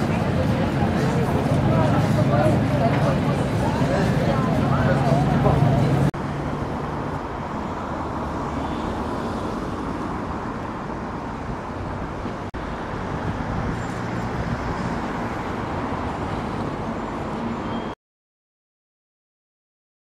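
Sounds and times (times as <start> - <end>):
passing cars and engines: 0.0 - 18.0.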